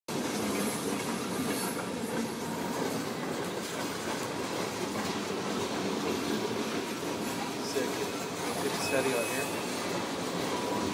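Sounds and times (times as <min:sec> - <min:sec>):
train wheels on rails: 0:00.1 - 0:10.9.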